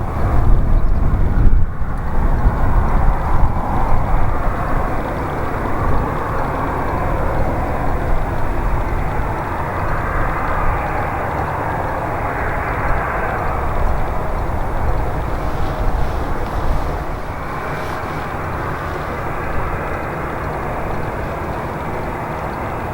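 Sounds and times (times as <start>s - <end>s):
jet engine roar: 0.0s - 22.9s.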